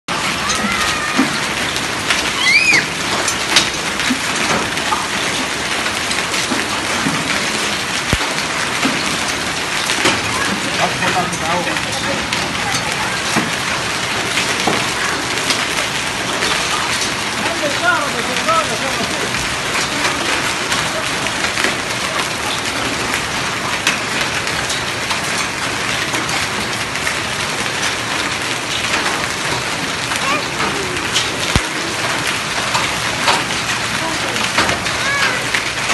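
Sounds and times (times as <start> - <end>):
rain and hail on stone paving: 0.1 - 35.9.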